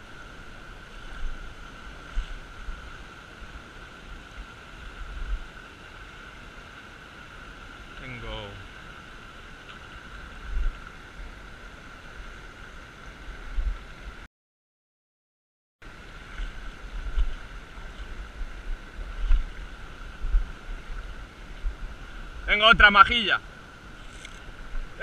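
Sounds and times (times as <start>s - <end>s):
river water over stones: 0.0s - 14.3s, 15.8s - 25.0s.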